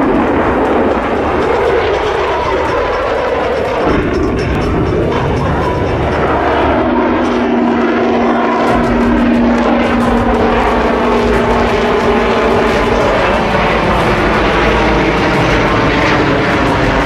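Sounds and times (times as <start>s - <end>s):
aircraft engine running: 0.0s - 17.0s.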